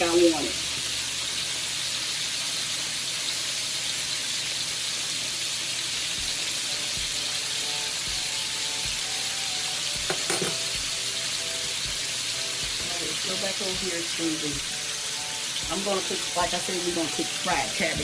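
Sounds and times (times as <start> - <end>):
chicken frying in hot oil: 0.0 - 18.0.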